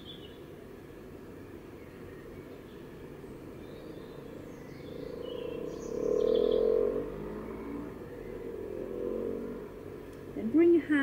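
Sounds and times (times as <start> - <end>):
birds chirping and singing: 1.6 - 10.8.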